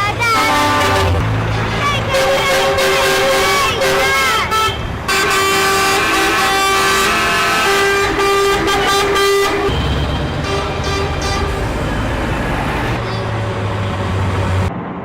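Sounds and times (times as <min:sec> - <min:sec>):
truck engines rumbling: 0:00.0 - 0:15.0
truck air horns blasting: 0:00.2 - 0:11.9, 0:12.9 - 0:14.0.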